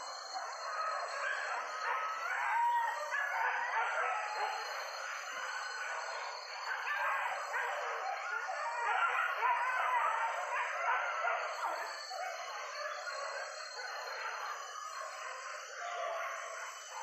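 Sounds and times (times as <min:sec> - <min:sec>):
hunting dogs yelping and baying: 0:00.4 - 0:17.0.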